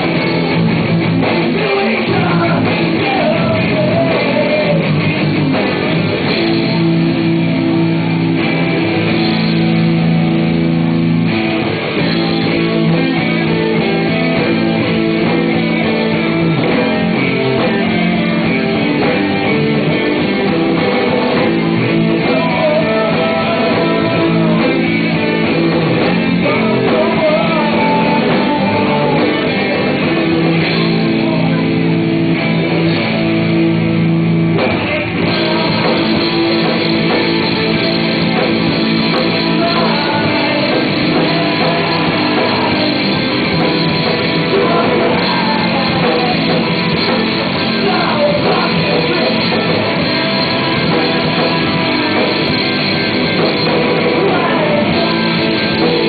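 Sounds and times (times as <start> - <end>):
rock music with guitar: 0.0 - 56.0
person singing: 1.2 - 10.0, 11.6 - 33.5, 34.6 - 56.0.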